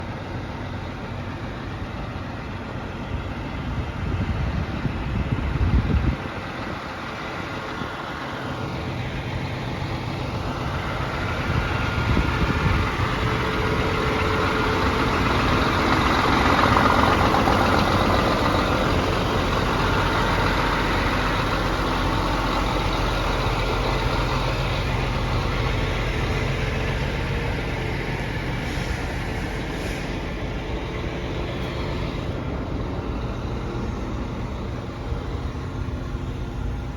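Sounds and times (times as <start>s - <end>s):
truck diesel engine running: 0.0s - 36.9s.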